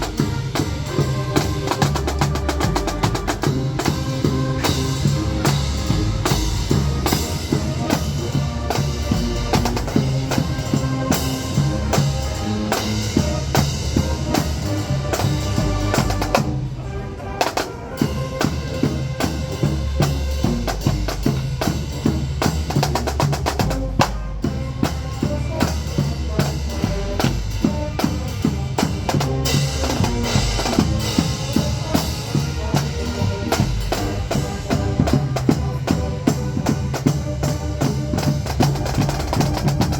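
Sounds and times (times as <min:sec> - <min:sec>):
snare and bass drums: 0:00.0 - 0:16.8, 0:17.4 - 0:39.9
marching band playing: 0:00.0 - 0:39.9.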